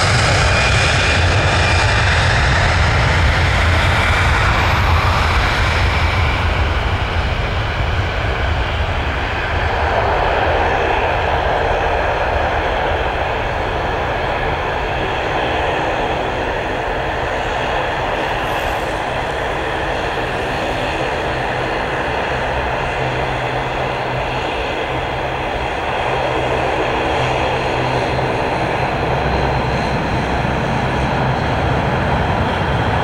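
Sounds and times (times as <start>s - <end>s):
jet engines at takeoff: 0.0s - 33.0s.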